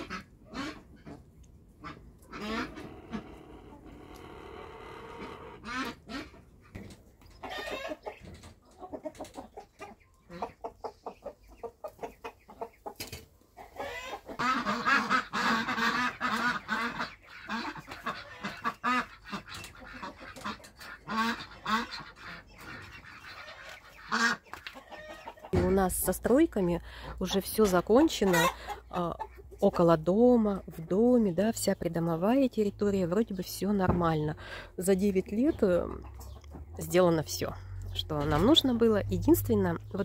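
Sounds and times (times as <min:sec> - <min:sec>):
chickens geese and ducks calling: 0:00.0 - 0:40.0
hens clucking: 0:00.0 - 0:40.0.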